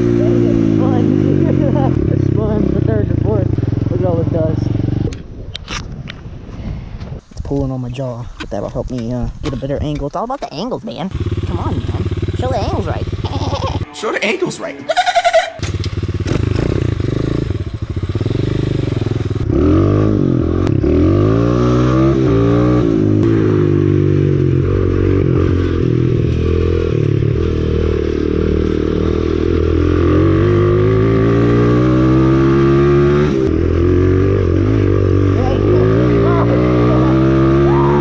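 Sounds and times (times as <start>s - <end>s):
dirt bike engine revving: 0.0s - 5.1s, 11.1s - 38.0s.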